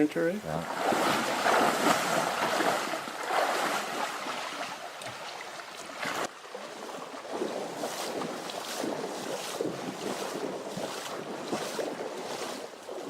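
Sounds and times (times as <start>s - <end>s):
stream flowing: 0.0s - 13.0s.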